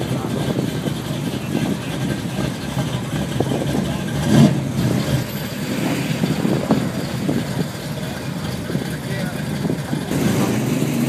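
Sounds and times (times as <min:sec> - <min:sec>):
car engines driving past: 0:00.0 - 0:11.0.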